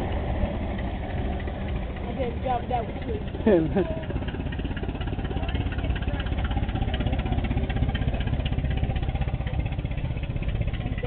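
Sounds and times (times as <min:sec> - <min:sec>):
old car engine chugging: 0:00.0 - 0:11.0.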